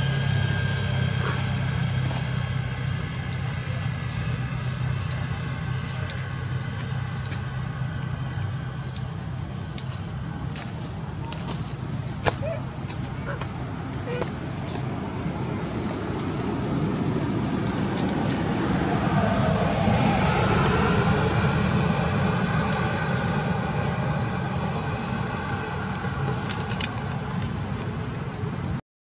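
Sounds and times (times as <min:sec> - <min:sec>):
mechanical rumble: 0:00.0 - 0:28.8.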